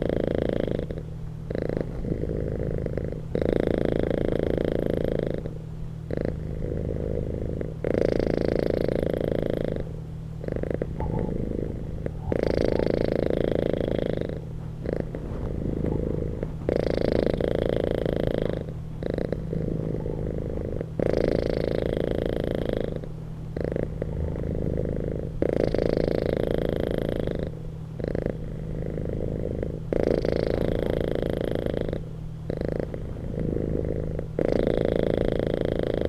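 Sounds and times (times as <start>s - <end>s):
cat purring: 0.0s - 36.0s.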